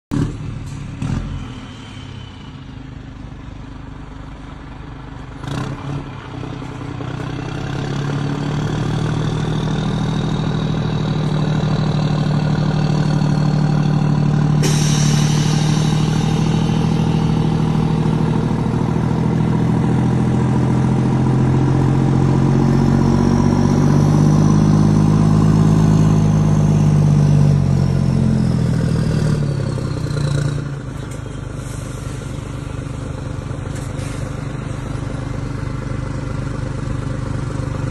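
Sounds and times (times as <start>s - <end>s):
diesel truck engine rumbling: 0.1s - 37.9s.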